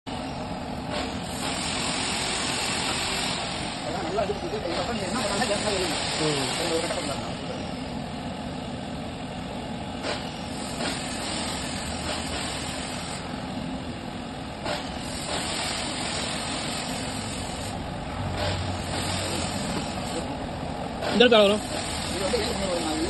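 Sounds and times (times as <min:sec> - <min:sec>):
stove fan blowing: 0:00.1 - 0:23.0.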